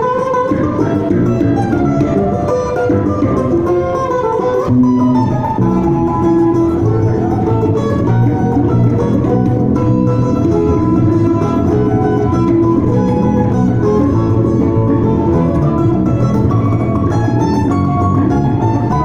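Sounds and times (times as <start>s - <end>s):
plucked bass notes: 0.0s - 19.0s
quick plucked string melody: 0.0s - 19.0s.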